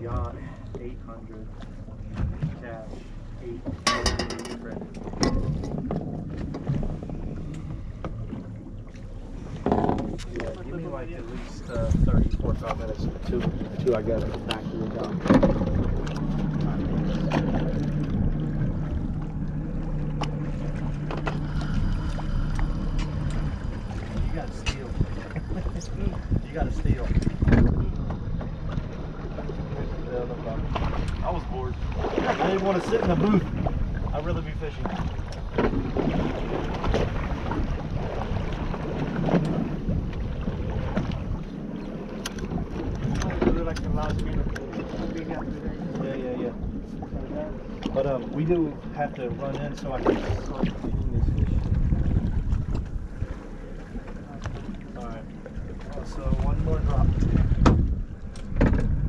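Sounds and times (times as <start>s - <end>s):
boat engine running: 0.0s - 59.0s
wind buffeting microphone: 0.0s - 59.0s.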